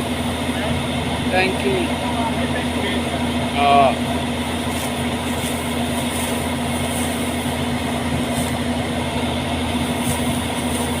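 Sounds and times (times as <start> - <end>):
combine harvester droning: 0.0 - 11.0.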